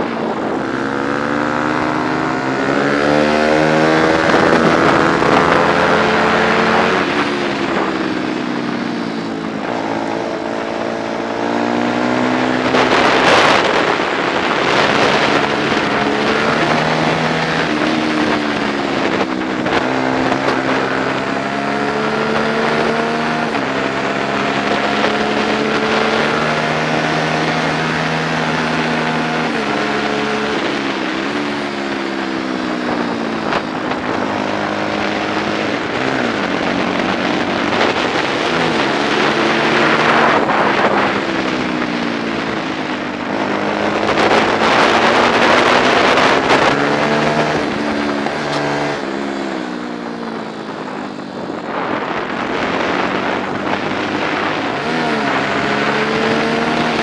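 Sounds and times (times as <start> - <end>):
motorcycle engine revving: 0.0 - 57.0
wind on microphone: 0.0 - 57.0.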